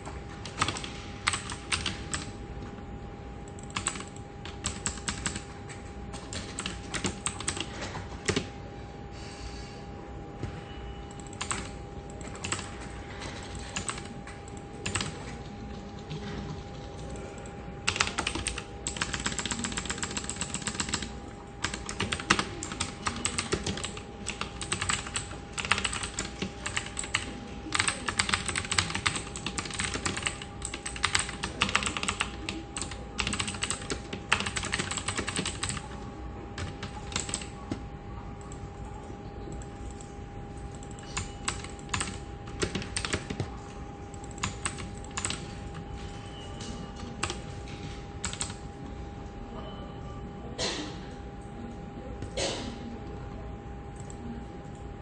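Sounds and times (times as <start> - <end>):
keyboard typing: 0.0 - 2.4, 3.4 - 8.5, 11.1 - 37.8, 38.4 - 48.7
faint steady hum: 0.0 - 55.0.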